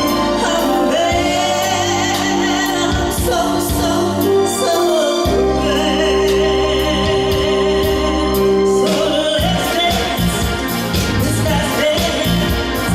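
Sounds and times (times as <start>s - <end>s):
gospel music with singing: 0.0s - 12.9s.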